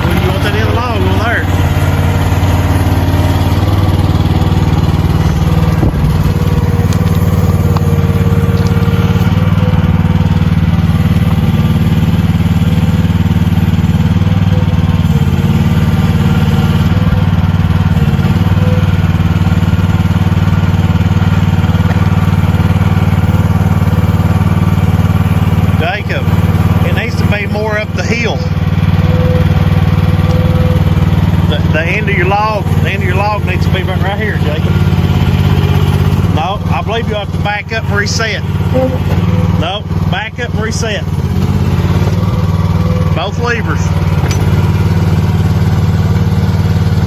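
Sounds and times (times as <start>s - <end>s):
mini excavator engine running: 0.0s - 47.0s.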